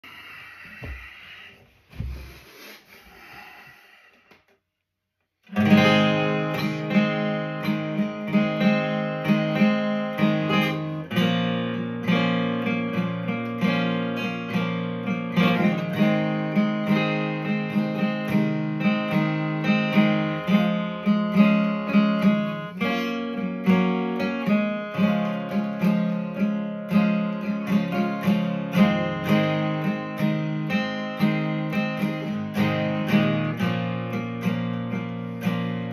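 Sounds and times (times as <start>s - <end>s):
acoustic guitar strumming: 5.5s - 35.9s.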